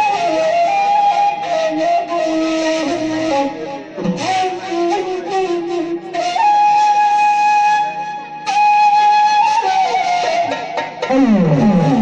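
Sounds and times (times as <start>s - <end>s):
reedy wind instrument folk music: 0.0s - 12.0s.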